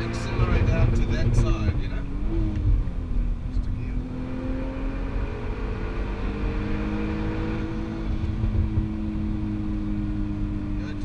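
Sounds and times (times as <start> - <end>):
car engine accelerating: 0.0 - 11.0
road and tyre rumble: 0.0 - 11.0.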